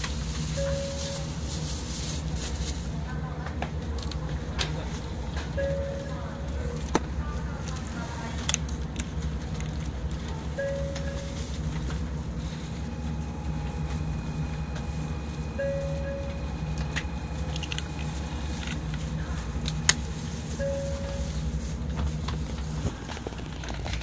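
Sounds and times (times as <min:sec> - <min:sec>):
train equipment humming: 0:00.0 - 0:24.0.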